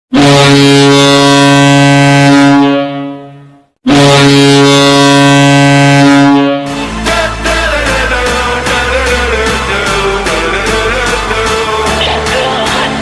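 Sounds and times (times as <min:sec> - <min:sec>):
deep goal horn blasts: 0:00.1 - 0:11.3.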